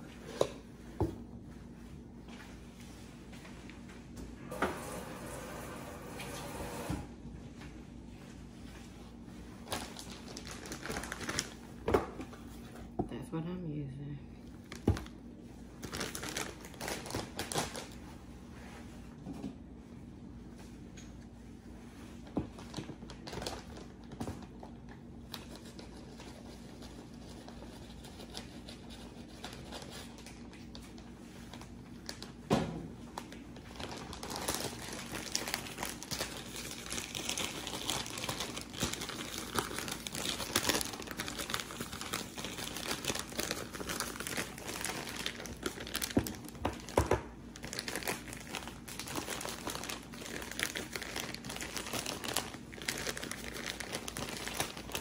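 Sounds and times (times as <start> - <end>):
crinkling and rustling: 7.4 - 13.0, 14.5 - 19.6, 20.6 - 32.4, 33.0 - 55.0.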